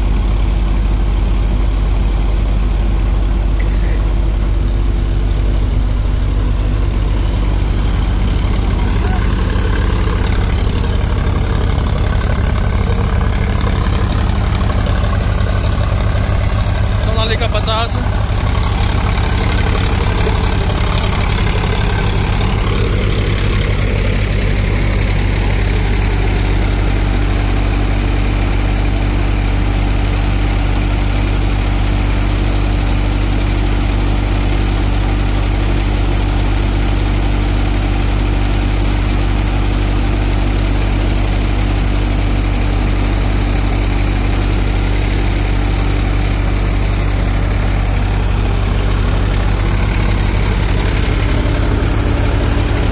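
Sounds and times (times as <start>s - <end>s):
tractor engine running: 0.0s - 52.9s
thresher whirring: 2.9s - 29.5s, 36.3s - 52.9s.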